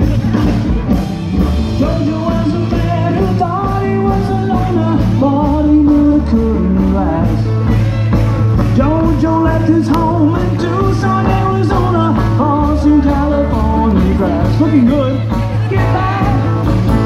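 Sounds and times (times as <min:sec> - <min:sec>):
live rock and roll band: 0:00.0 - 0:17.0
person singing: 0:01.6 - 0:17.0.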